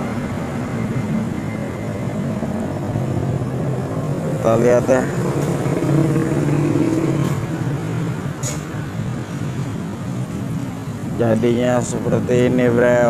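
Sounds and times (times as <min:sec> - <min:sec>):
motor engine droning: 0:00.0 - 0:11.1.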